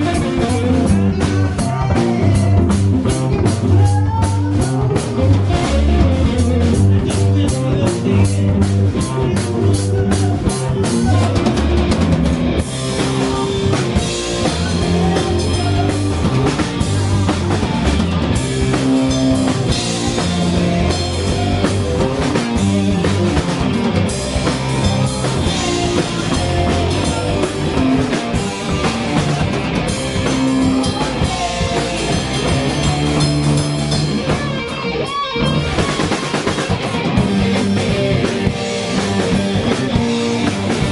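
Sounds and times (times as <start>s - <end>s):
loud live rock band: 0.0s - 40.9s
rapid drum hits: 5.2s - 34.6s, 35.5s - 40.9s.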